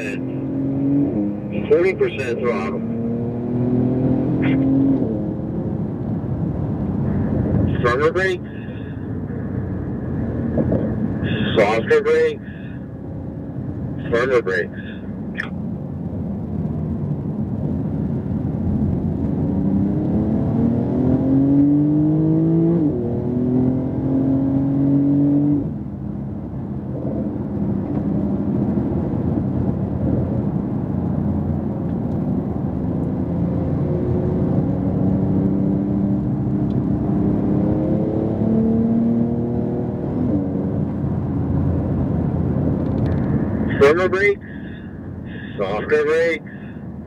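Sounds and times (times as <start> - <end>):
car engine accelerating: 0.0 - 47.0
tyre and road noise: 0.0 - 47.0.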